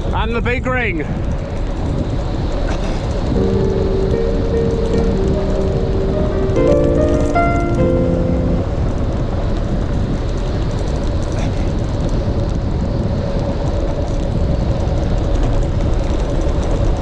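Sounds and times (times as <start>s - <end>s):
wind rushing on microphone: 0.0s - 17.0s
constant hum: 1.0s - 17.0s.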